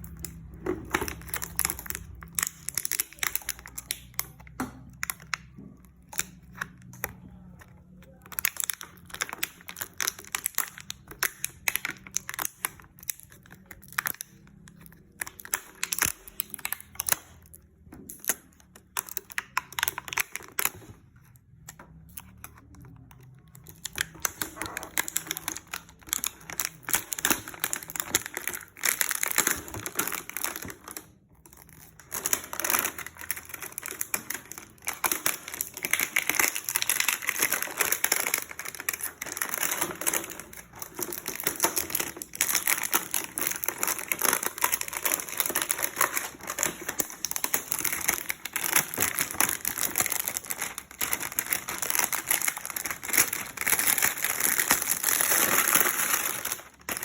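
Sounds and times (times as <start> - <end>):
plastic packaging crinkling: 0.0 - 57.0.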